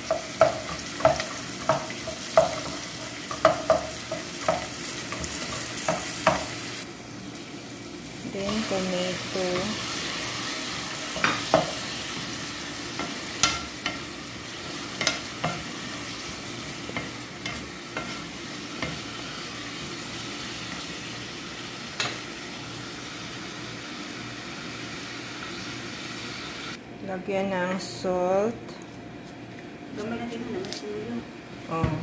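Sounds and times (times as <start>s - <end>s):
onion and tomato sizzling in oil: 0.0s - 26.8s.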